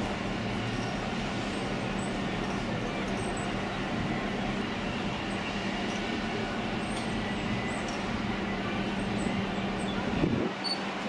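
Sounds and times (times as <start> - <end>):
low mechanical hum: 0.0 - 11.0
outdoor background noise: 0.0 - 11.0.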